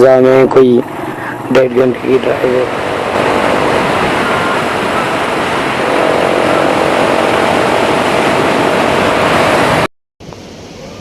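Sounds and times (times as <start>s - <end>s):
motorcycle engine drone: 0.0s - 9.9s
wind over microphone: 0.4s - 11.0s.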